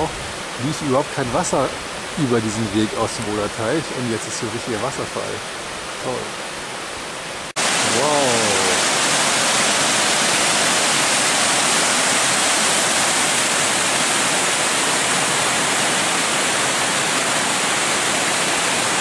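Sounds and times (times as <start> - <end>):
waterfall rushing over rocks: 0.0 - 19.0.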